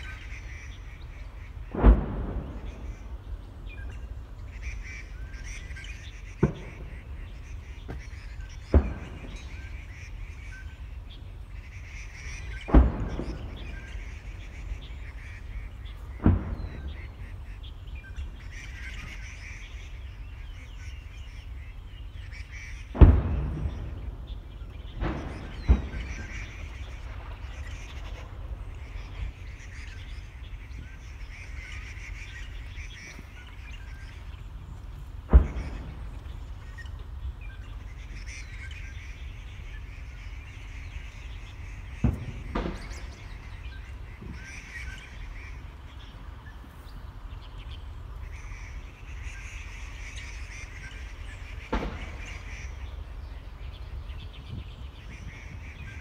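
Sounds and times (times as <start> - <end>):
sharp bangs: 0.0 - 10.9, 11.6 - 20.2, 22.5 - 46.0, 49.9 - 53.8
birds calling: 0.0 - 56.0
low rumble: 0.0 - 56.0.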